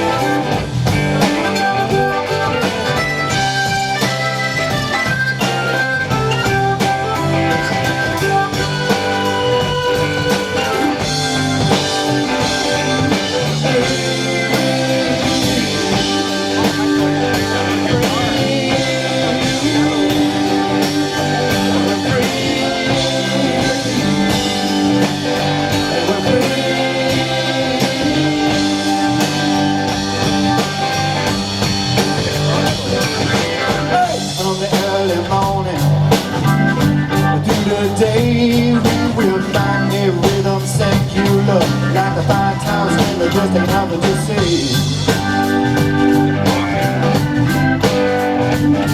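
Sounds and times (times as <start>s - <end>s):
electric guitar: 0.0s - 48.9s
live rock band playing: 0.0s - 48.9s.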